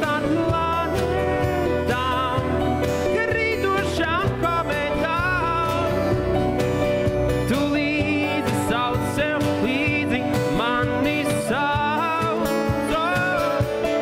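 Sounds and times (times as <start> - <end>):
acoustic guitar accompaniment: 0.0 - 14.0
sliding lead melody: 0.0 - 14.0.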